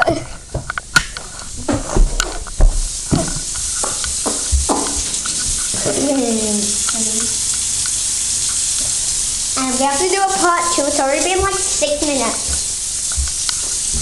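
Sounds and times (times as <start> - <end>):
water running into bathtub: 0.0 - 14.0.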